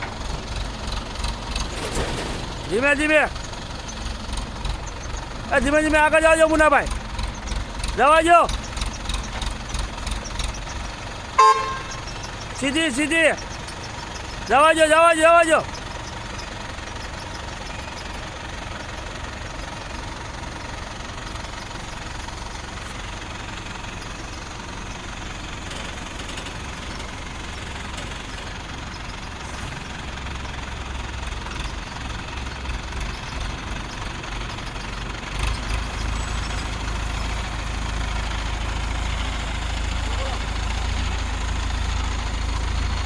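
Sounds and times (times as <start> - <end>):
heavy vehicle engine rumbling: 0.0 - 43.0.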